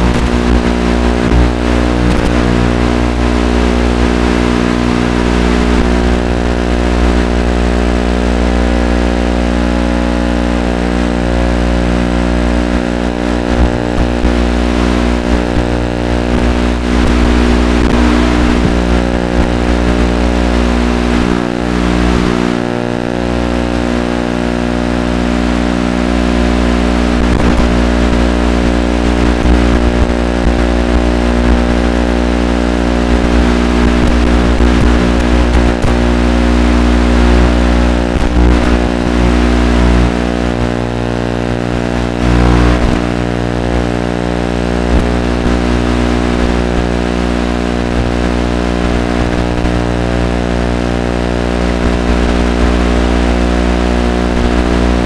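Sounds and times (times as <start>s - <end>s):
loud droning hum: 0.0s - 55.0s.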